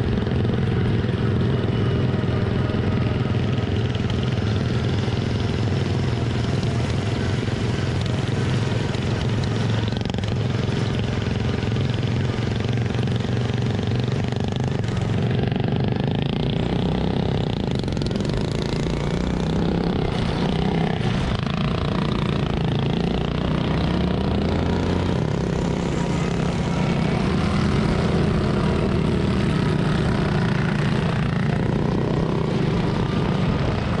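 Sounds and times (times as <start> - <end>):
lawn tractor engines running hard: 0.0 - 34.0.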